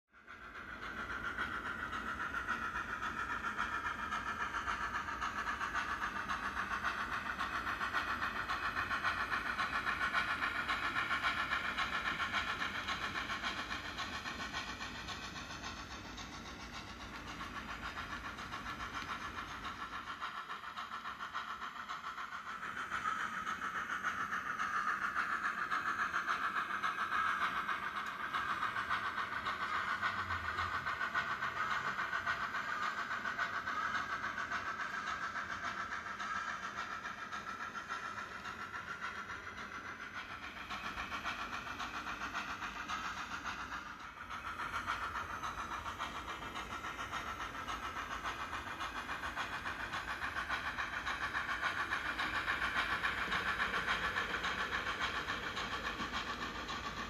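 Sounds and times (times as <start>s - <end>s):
model steam engine sounds from speaker: 0.1s - 57.0s
model train wheels on rails: 0.1s - 57.0s.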